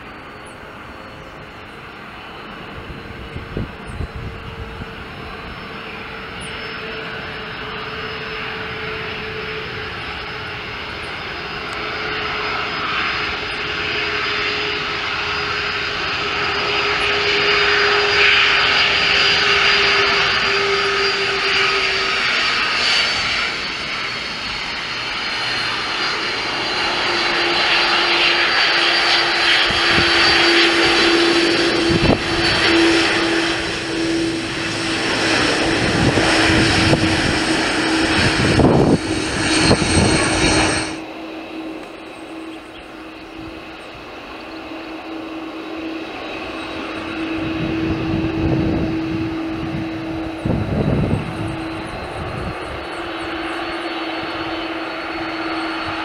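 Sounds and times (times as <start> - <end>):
jet engines taxiing: 0.0 - 56.0
steady engine whine: 0.0 - 56.0.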